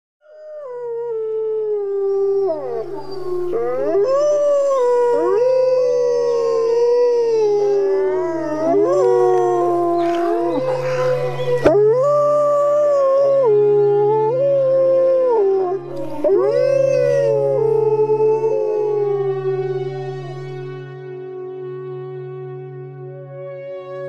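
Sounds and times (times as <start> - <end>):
wolves howling: 0.3 - 20.7.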